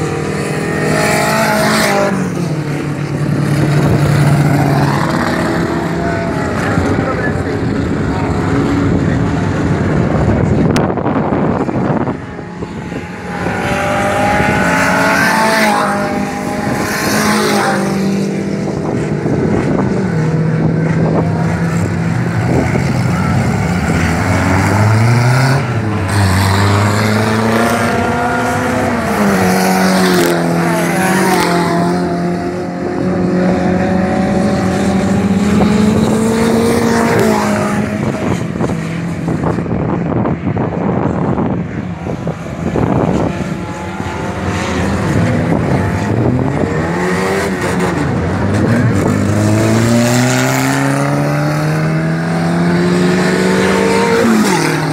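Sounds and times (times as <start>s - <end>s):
race car engines accelerating: 0.0s - 54.9s.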